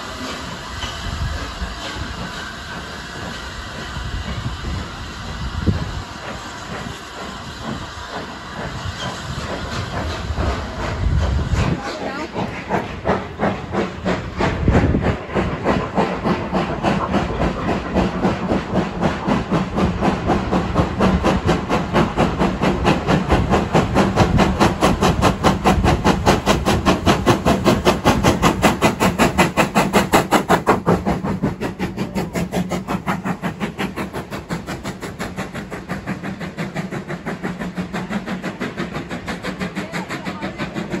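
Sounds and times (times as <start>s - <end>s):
steam locomotive chuffing: 0.0s - 41.0s.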